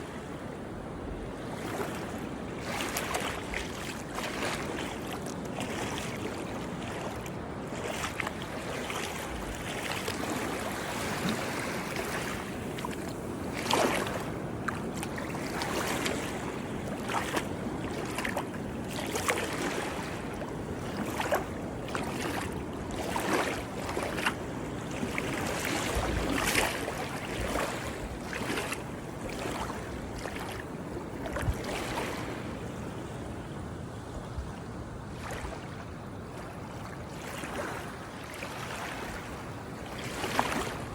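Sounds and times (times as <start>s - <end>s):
small sea waves splashing: 0.0s - 40.9s.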